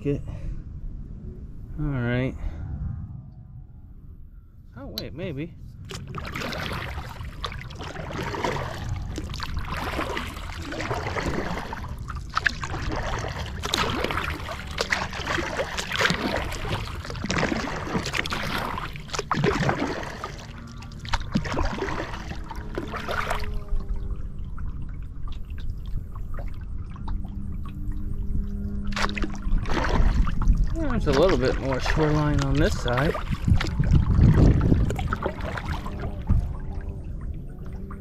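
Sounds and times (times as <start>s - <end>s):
low rumble: 0.0s - 38.0s
paddle splashing water: 5.8s - 28.0s, 28.8s - 38.0s.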